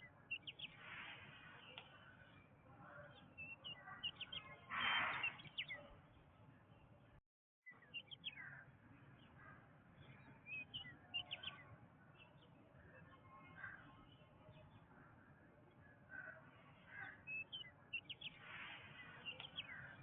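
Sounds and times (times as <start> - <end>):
birds chirping: 0.0 - 7.0, 7.7 - 20.0
low background noise: 0.0 - 20.0.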